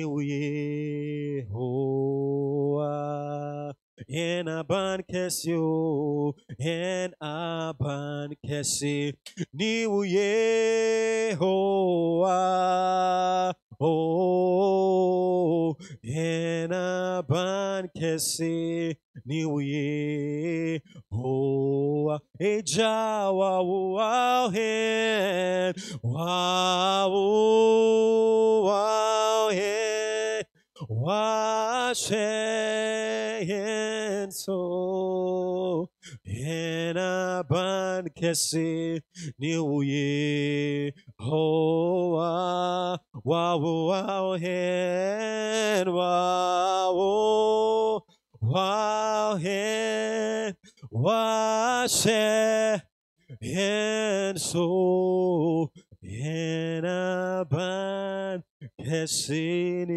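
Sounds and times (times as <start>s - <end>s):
man chanting into microphone: 0.0s - 59.9s
man singing unaccompanied: 0.0s - 59.9s.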